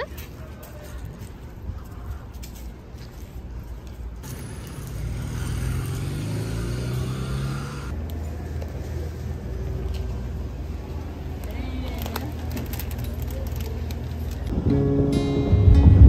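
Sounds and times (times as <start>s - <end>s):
vehicle engine rumble: 0.0s - 14.8s.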